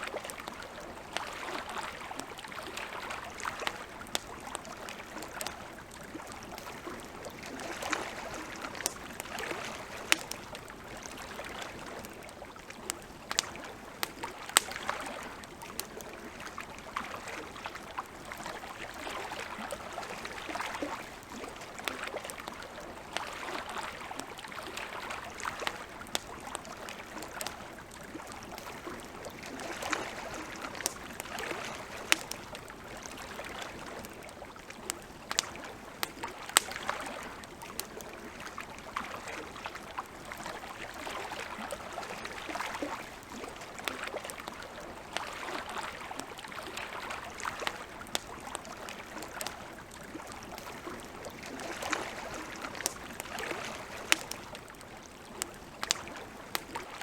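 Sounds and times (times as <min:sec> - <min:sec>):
campfire crackling and popping: 0:00.0 - 0:57.0
small waves lapping at shore: 0:00.0 - 0:57.0.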